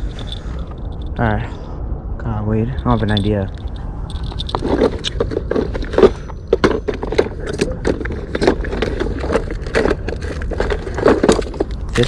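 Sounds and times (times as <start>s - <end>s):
fishing tackle clicking and scraping: 0.0s - 1.2s, 2.8s - 12.0s.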